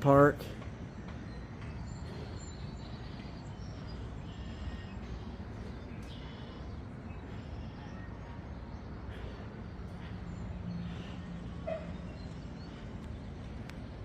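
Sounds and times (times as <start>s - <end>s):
steady low rumble: 0.0s - 14.0s
faint bird chirps: 0.9s - 13.9s.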